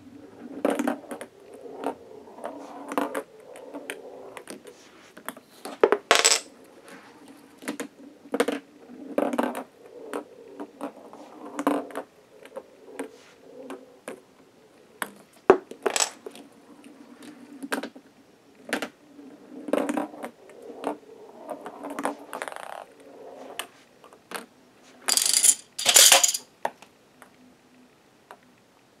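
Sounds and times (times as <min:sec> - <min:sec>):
balls rolling on plastic track: 0:00.2 - 0:18.0, 0:18.7 - 0:26.4.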